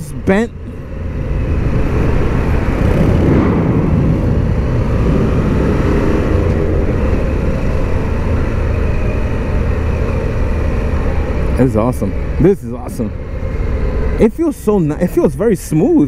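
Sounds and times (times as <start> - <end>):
motorcycle engine and road drone: 0.0 - 16.0.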